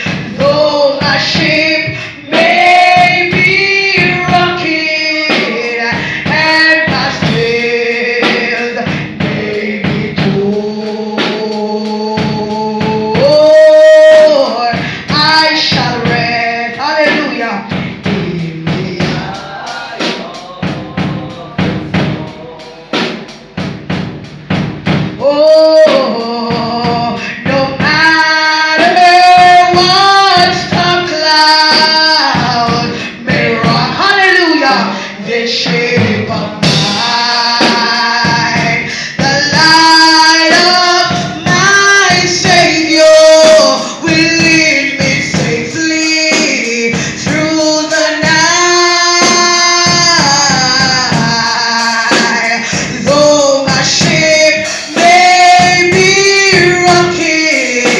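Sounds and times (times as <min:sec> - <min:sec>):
drum beat: 0:00.0 - 0:57.9
gospel singing by men and women: 0:00.0 - 0:57.9.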